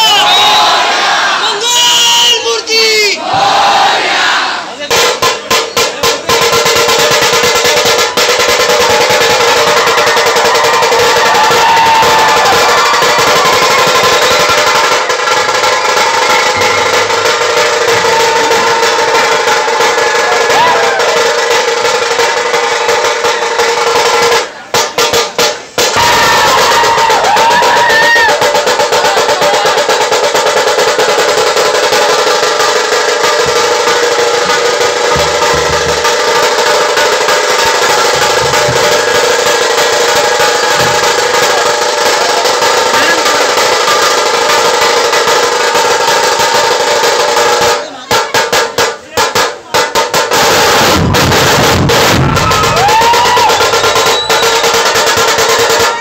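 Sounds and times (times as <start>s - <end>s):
drum troupe drumming loudly: 0.0s - 56.0s.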